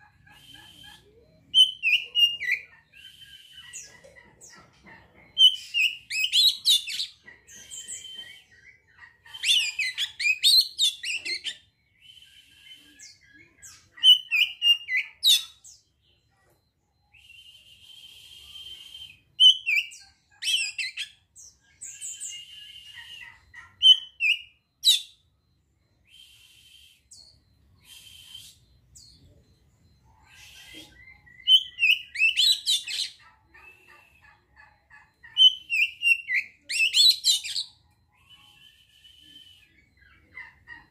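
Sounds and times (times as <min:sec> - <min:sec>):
bird singing whistles and chatters: 0:00.2 - 0:04.0, 0:05.3 - 0:15.9, 0:17.0 - 0:25.2, 0:26.0 - 0:29.4, 0:30.0 - 0:34.2, 0:35.2 - 0:40.6.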